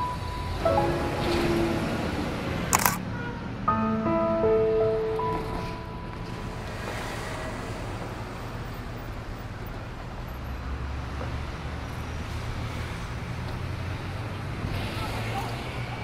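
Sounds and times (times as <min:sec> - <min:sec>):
passing cars hum: 0:00.0 - 0:16.0.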